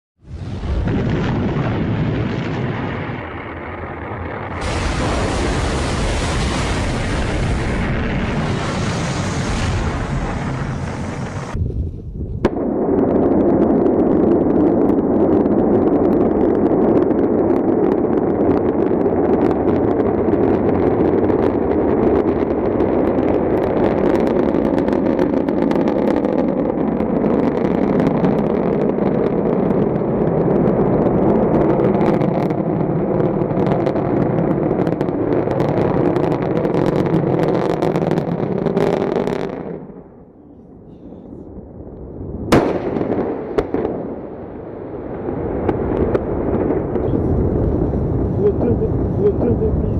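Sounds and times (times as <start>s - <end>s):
rocket engines rumbling and crackling: 0.2s - 49.9s.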